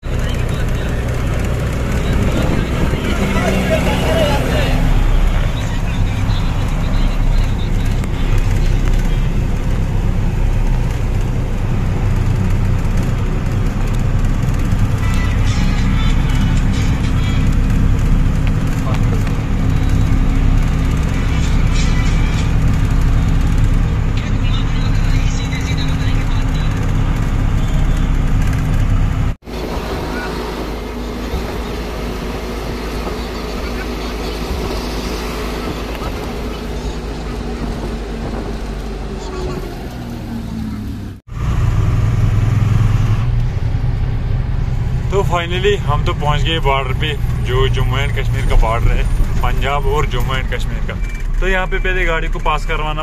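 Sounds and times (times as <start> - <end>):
road noise: 0.0 - 53.0
truck engine running: 0.0 - 53.0.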